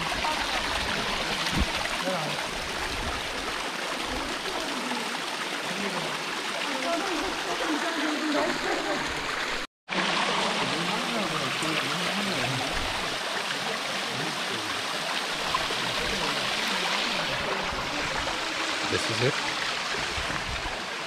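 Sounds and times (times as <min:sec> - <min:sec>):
water trickling over rocks: 0:00.0 - 0:21.0.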